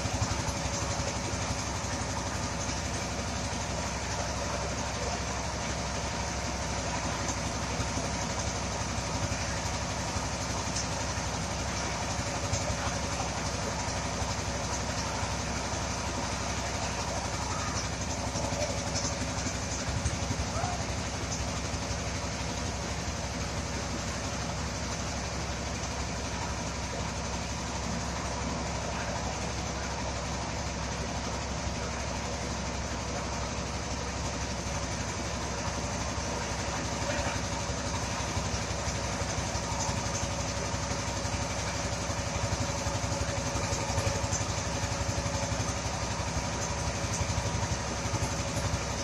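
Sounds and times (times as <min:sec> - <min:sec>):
rice thresher engine humming: 0:00.0 - 0:49.0.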